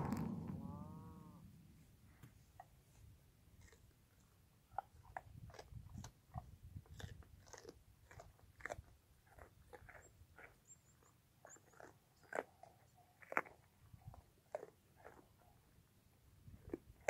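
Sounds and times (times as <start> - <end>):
deer crunching carrots: 2.6 - 17.0.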